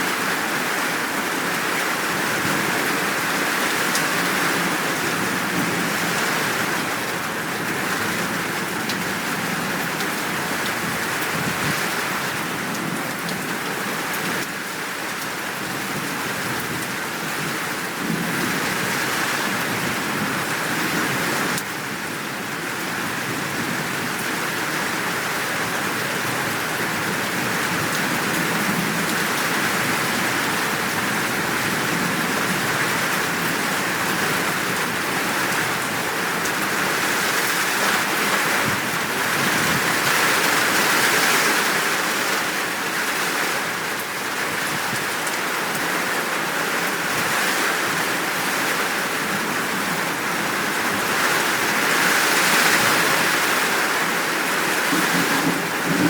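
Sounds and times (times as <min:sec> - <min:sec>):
steady downpour of rain: 0:00.0 - 0:56.0.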